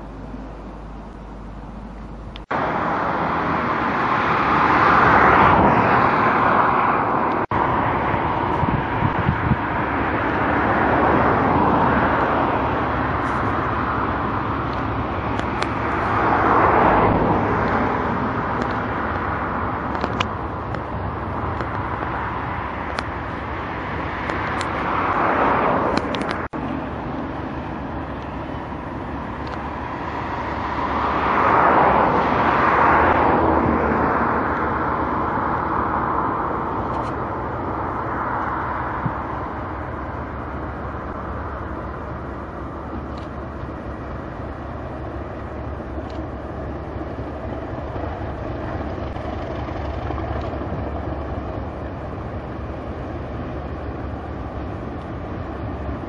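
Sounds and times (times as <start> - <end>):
traffic rumble: 0.0 - 56.0
vehicles passing: 0.0 - 56.0.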